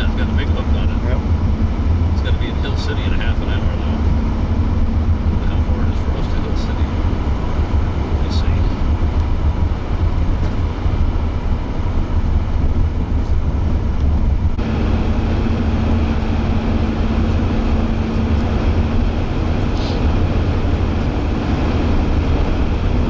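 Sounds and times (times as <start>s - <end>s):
car cabin road rumble: 0.0s - 23.0s
steady hum: 0.0s - 23.0s.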